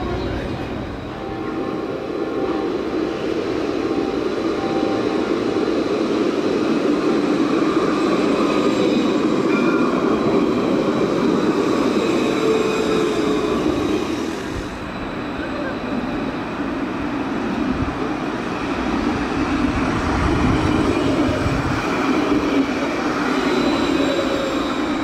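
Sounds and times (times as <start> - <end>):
tram wheels rumbling: 0.0 - 25.0.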